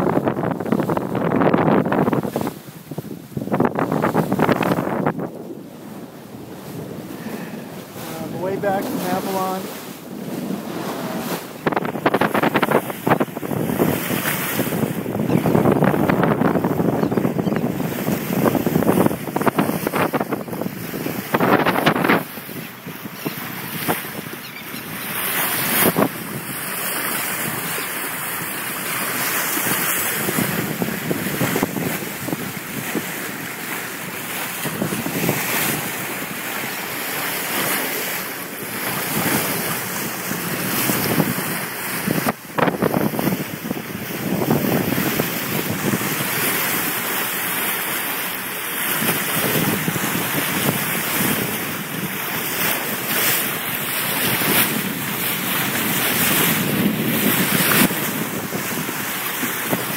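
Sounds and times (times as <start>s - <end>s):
water rushing along hull: 0.0s - 59.9s
wind buffeting microphone: 0.0s - 59.9s.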